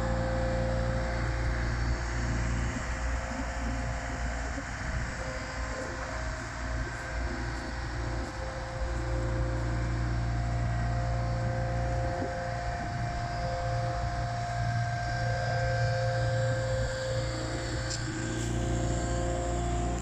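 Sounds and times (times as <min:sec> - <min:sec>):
engine drone: 0:00.0 - 0:20.0
high mechanical whine: 0:00.0 - 0:20.0.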